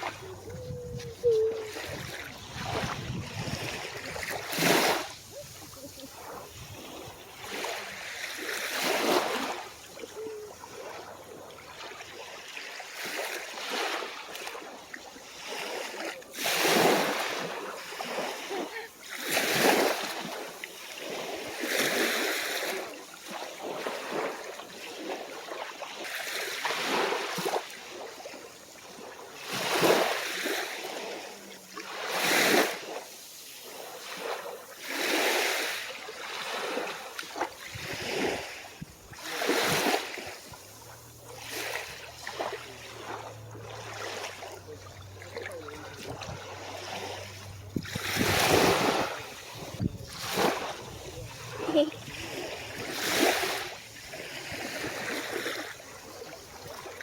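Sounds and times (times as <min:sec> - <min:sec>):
small waves breaking on shore: 0:00.0 - 0:57.0.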